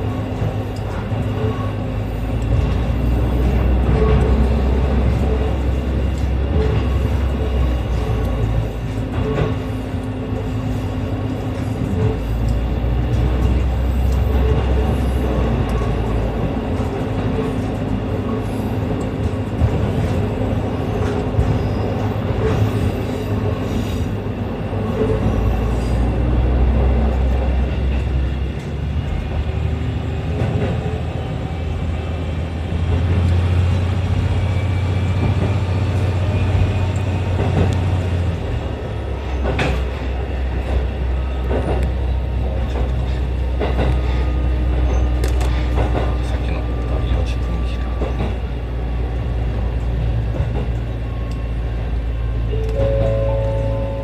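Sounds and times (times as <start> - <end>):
wheels clicking on track: 0.0 - 24.1, 32.5 - 54.0
diesel engine drone: 0.0 - 54.0
wheel and rail noise: 0.0 - 54.0.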